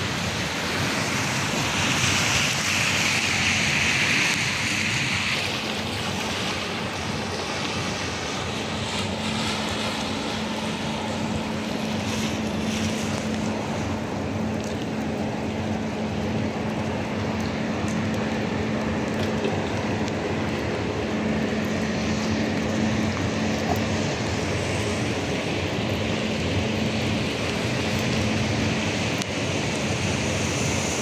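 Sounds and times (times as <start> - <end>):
heavy rain: 0.0 - 31.0
low hum: 0.0 - 31.0
traffic on wet roads: 0.0 - 31.0.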